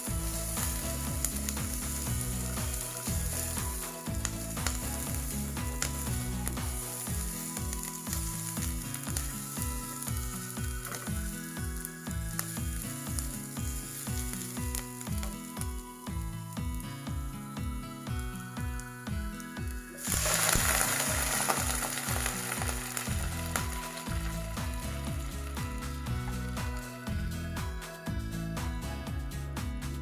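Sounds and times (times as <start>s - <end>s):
food sizzling in hot oil: 0.0s - 17.3s, 19.7s - 27.1s
background music with steady beat: 0.0s - 30.0s.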